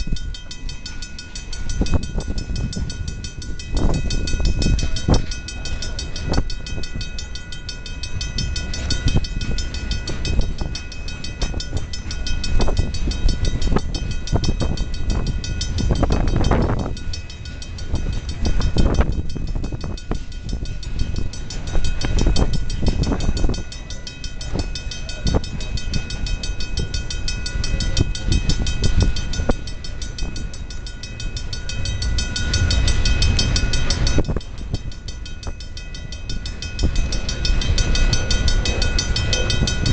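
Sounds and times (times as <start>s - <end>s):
level crossing bell ringing: 0.0s - 39.9s
train wheels rumbling on rails: 0.0s - 39.9s.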